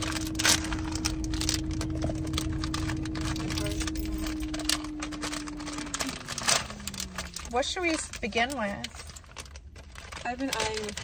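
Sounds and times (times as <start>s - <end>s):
low hum: 0.0s - 11.0s
snack packaging rustling: 0.0s - 11.0s.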